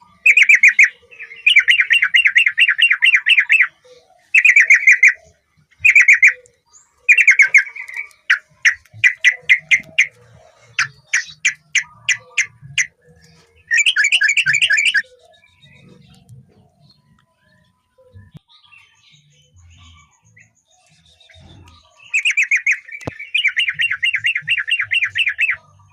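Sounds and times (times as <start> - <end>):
bird singing chattering phrases: 0.0 - 25.9.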